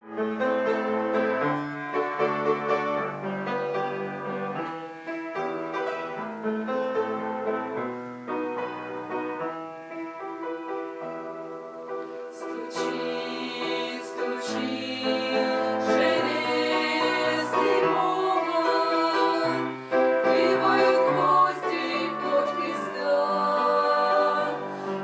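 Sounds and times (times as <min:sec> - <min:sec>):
piano melody over held chords: 0:00.0 - 0:25.0.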